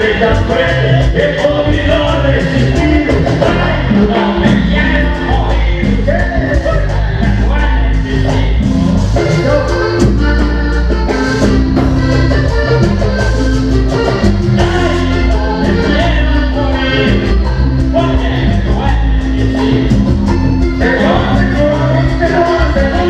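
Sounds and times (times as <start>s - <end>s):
accordion-led band music: 0.0s - 23.0s.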